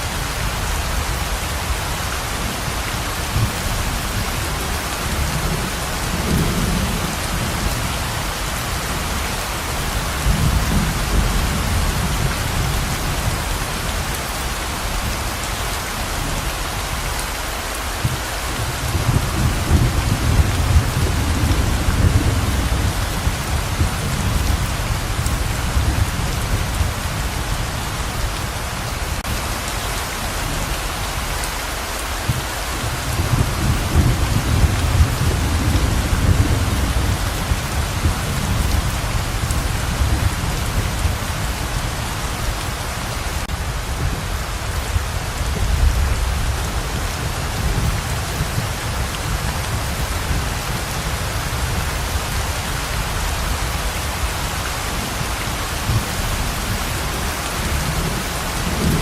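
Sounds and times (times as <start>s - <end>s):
heavy rain pouring: 0.0s - 59.0s
thunder rumbling: 0.1s - 15.4s, 18.0s - 29.6s, 32.2s - 59.0s.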